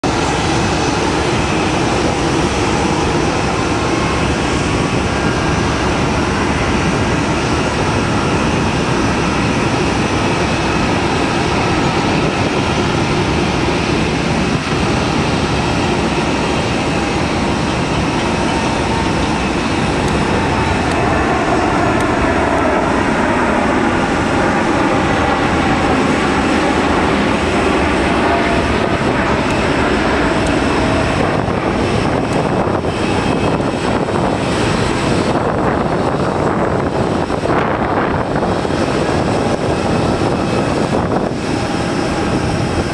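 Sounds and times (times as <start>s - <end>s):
jet engines at takeoff: 0.0s - 42.9s.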